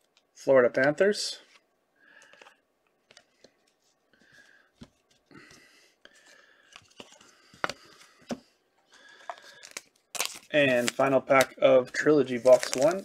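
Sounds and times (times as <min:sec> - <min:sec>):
cards rustling and sliding: 0:02.2 - 0:13.0.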